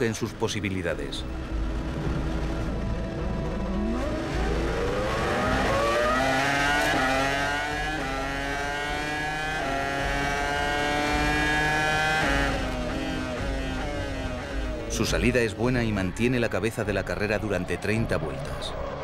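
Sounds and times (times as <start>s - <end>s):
racing engines accelerating: 1.0s - 19.0s.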